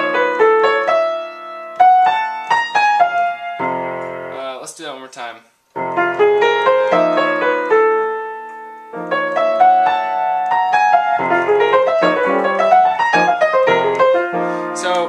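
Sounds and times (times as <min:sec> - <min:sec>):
solo jazz piano: 0:00.0 - 0:04.5, 0:05.7 - 0:15.0.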